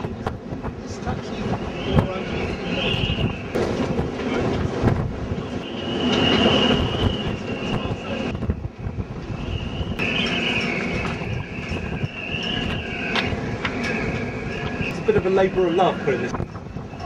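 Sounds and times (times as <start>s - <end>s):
wind buffeting microphone: 0.0s - 17.0s
high wavering whine: 1.0s - 17.0s.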